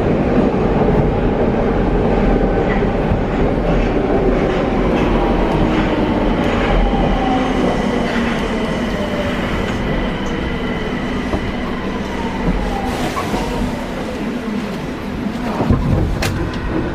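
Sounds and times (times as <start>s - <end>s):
wheel and rail rumble: 0.0s - 16.9s.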